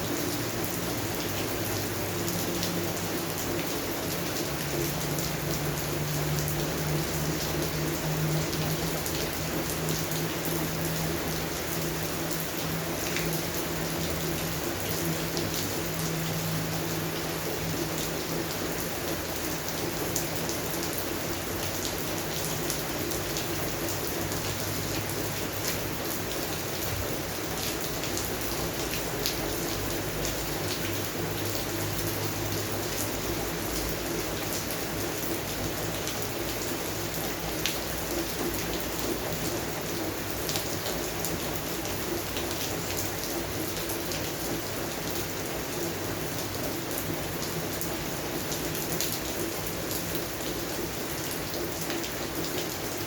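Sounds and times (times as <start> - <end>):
rain falling on plants: 0.0 - 53.0.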